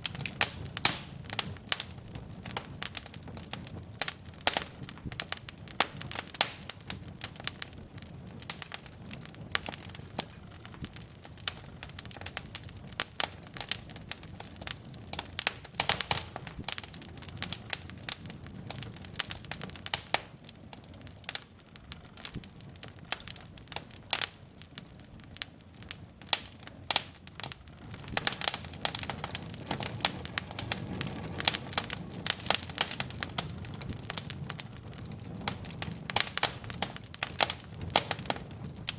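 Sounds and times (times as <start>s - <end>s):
burning logs crackling and popping: 0.0s - 38.9s
low rumble of flame: 0.0s - 38.9s.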